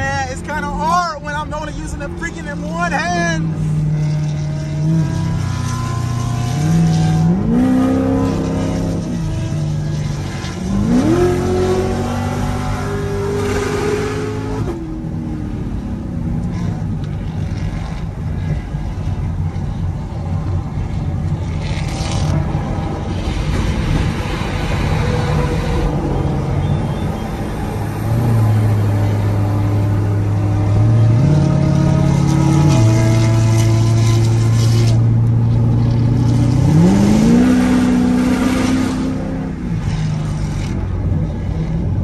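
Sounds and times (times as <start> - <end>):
car engine accelerating: 0.0 - 42.0
road and wind noise: 0.0 - 42.0.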